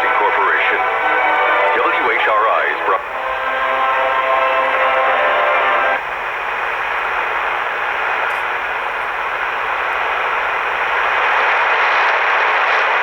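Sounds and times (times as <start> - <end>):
shortwave radio static hiss: 0.0 - 13.0.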